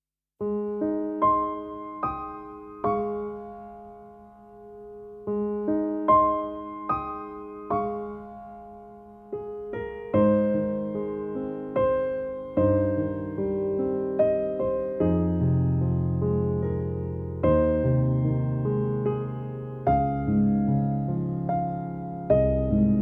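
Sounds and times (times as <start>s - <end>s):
slow gentle piano music: 0.4s - 23.0s.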